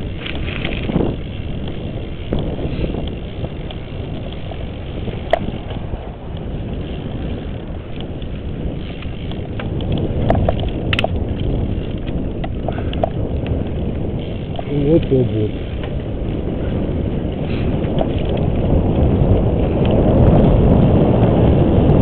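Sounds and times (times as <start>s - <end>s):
bike clicks and rattles: 0.0s - 22.0s
bike tyre rumble on rough path: 0.0s - 22.0s
wind on microphone: 0.0s - 22.0s.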